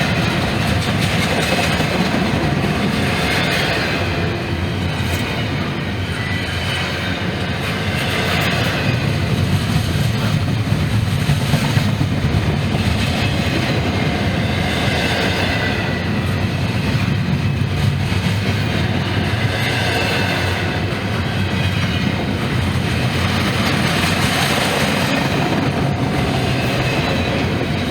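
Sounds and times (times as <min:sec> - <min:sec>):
freight train wheels rolling: 0:00.0 - 0:27.9.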